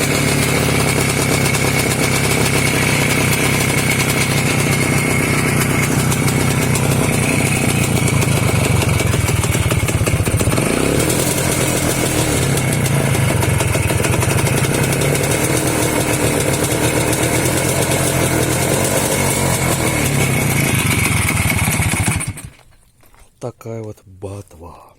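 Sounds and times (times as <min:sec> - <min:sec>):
two-stroke motorcycle engine running: 0:00.0 - 0:22.7.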